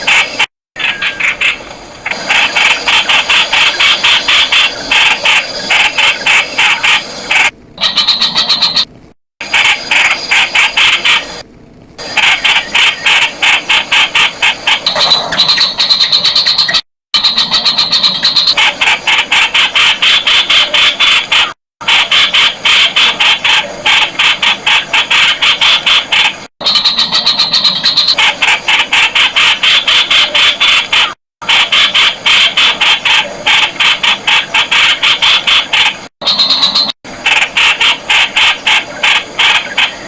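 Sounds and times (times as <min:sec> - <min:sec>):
bird calling in harsh notes: 0:00.0 - 0:08.9, 0:12.0 - 0:40.0.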